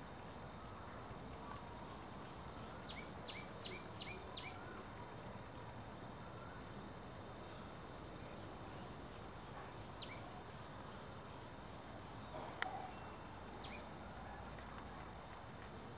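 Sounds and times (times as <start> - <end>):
low outdoor hiss: 0.0 - 15.9.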